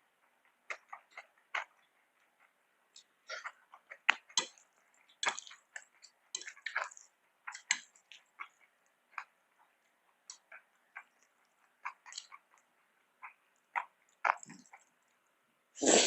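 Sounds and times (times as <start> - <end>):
wet chewing and mouth smacks: 0.2 - 15.4.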